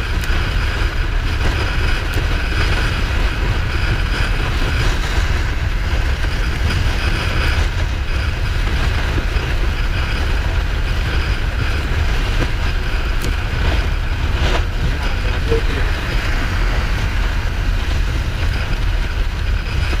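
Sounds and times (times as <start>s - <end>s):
motorcycle engine: 0.0s - 20.0s
road rumble: 0.0s - 20.0s
wind rush on microphone: 0.0s - 20.0s.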